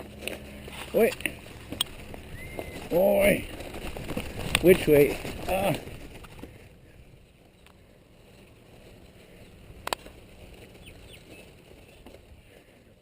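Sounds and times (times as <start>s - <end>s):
bike tyres rumbling on dirt: 0.0s - 13.0s.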